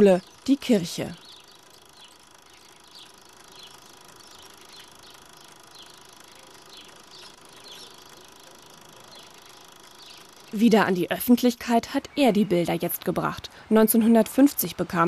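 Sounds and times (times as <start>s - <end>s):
small bird chirping: 0.0s - 13.4s.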